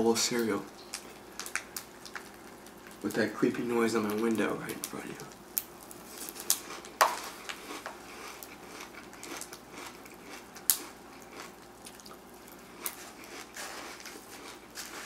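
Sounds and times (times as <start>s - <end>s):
wet chewing of cereal: 0.8s - 3.2s, 4.0s - 15.0s.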